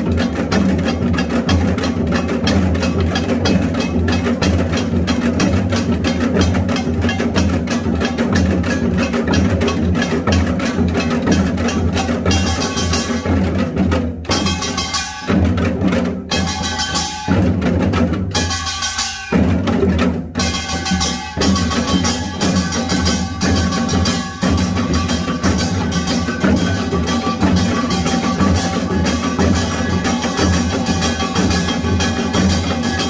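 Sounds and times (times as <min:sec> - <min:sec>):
percussion ensemble of gongs and drums: 0:00.0 - 0:33.0.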